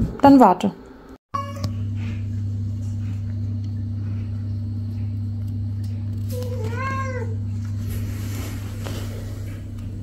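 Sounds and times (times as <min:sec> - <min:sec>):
steady low hum: 0:00.9 - 0:10.0.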